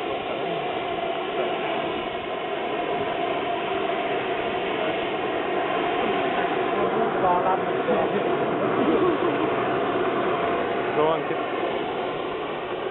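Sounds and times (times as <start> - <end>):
model jet turbine running: 0.0 - 12.9.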